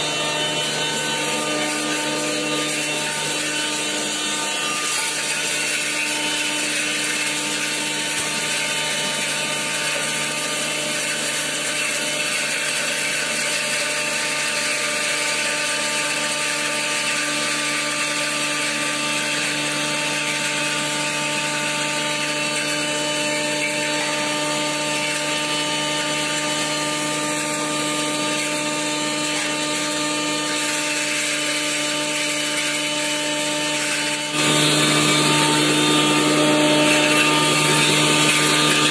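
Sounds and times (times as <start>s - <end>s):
grinding mill whirring: 0.0s - 38.9s.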